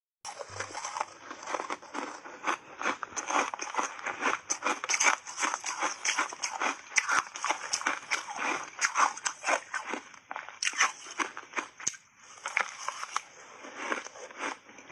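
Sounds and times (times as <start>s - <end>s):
ice being crunched while chewing: 0.3s - 14.9s.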